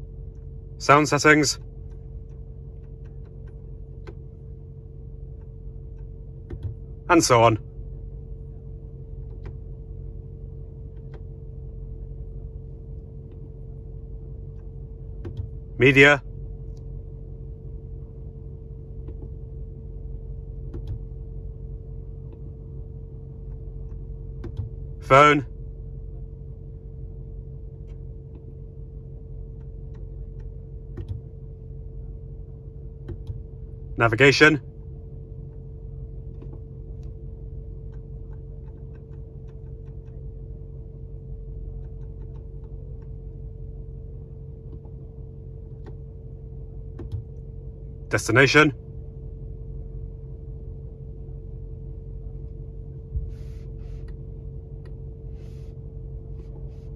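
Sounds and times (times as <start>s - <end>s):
car cabin engine hum: 0.0s - 56.9s.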